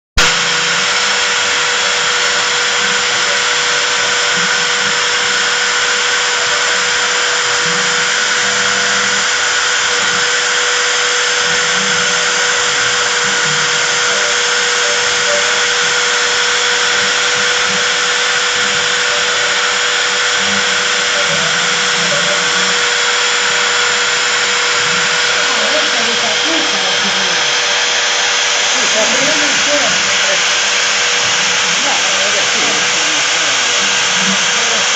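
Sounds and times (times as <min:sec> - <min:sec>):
router spindle whining: 0:00.2 - 0:34.9.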